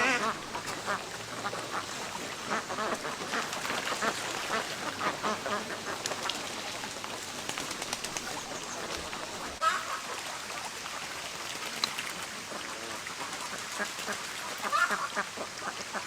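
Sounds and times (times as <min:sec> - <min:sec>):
ducks quacking: 0:00.0 - 0:06.6, 0:07.7 - 0:10.5, 0:12.4 - 0:16.0.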